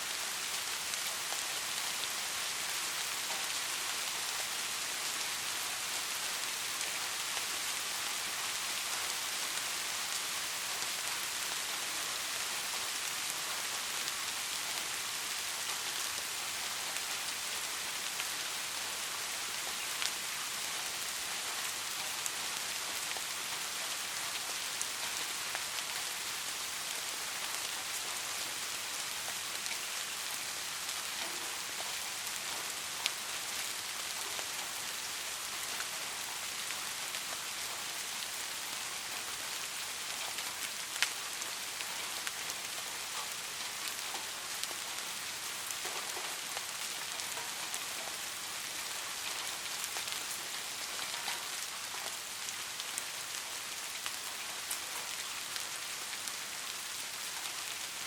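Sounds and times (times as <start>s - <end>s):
soft rainfall: 0.0s - 58.0s.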